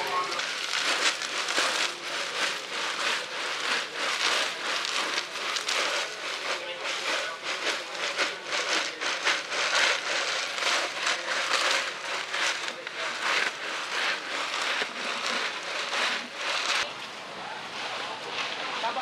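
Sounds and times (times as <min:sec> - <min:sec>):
continuous crackling hissing noise: 0:00.0 - 0:19.0
crowd chatter: 0:00.0 - 0:19.0.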